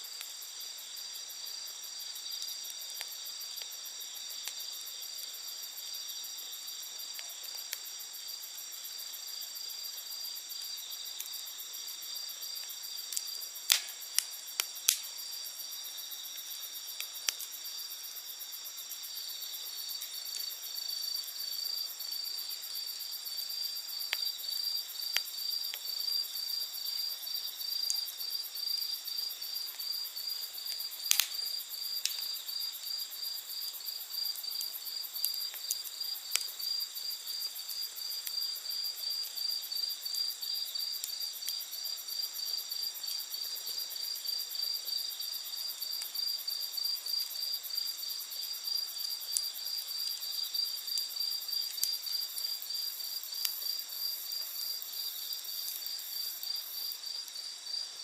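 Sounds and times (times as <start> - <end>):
campfire crackling and popping: 0.0 - 58.0
night insects trilling: 0.0 - 58.0.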